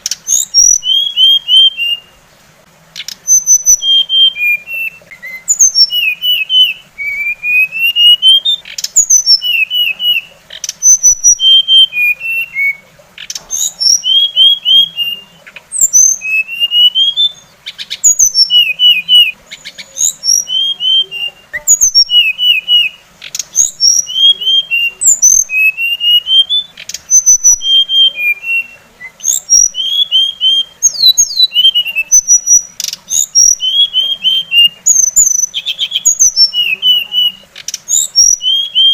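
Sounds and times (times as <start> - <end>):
songbird chirps and whistles: 0.0 - 2.3, 2.9 - 38.9.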